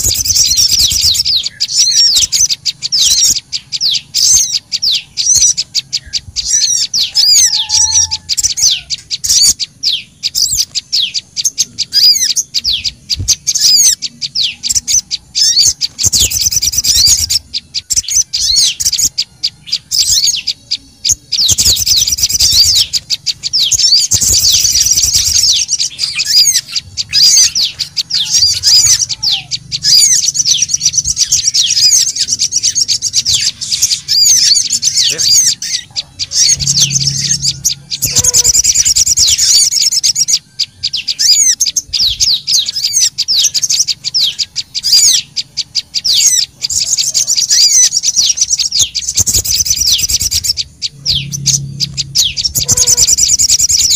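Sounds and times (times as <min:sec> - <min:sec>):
small songbirds chirping and trilling: 0:00.0 - 0:53.9.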